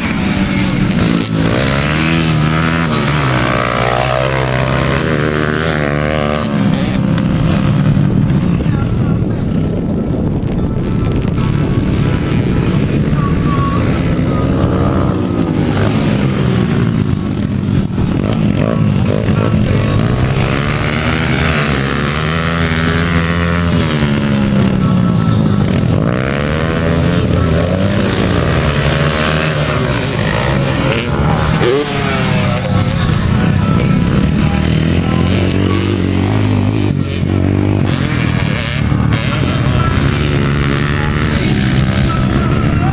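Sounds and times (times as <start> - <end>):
motocross motorcycles revving: 0.0 - 42.9.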